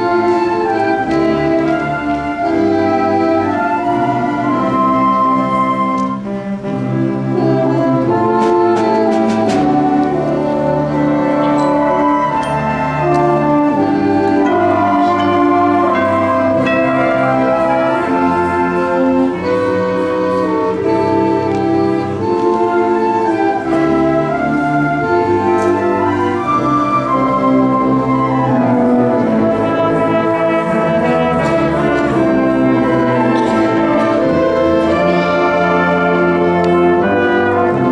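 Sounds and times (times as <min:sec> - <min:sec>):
percussion strokes: 0:00.0 - 0:37.9
symphonic band playing: 0:00.0 - 0:37.9.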